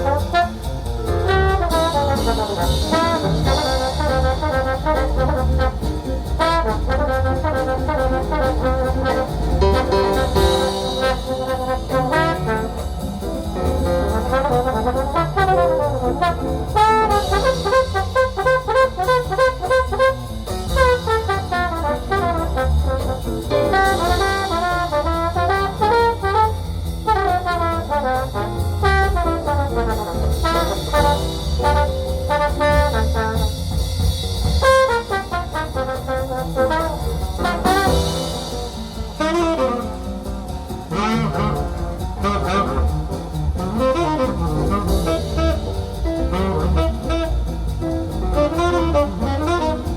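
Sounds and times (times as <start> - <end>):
jazz with brass: 0.0 - 49.9
strong bass line: 0.0 - 49.9.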